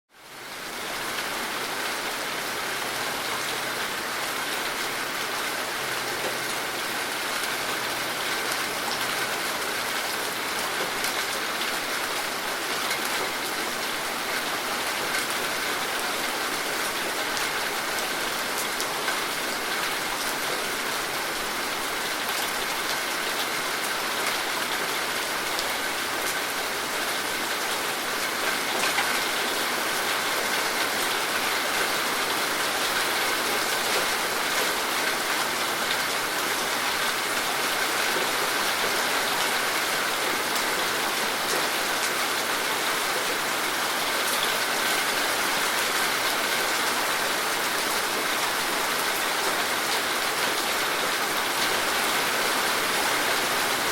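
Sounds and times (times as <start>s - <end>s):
heavy rain falling: 0.1s - 53.9s.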